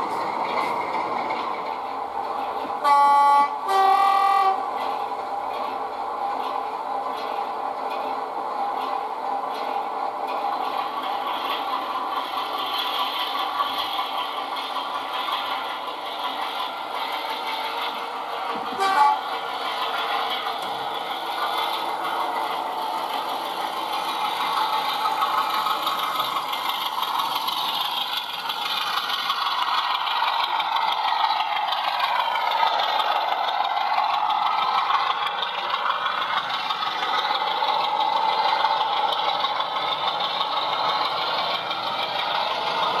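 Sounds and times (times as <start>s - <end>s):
model diesel engine sound: 0.0s - 43.0s
model train wheels rattling: 4.7s - 43.0s.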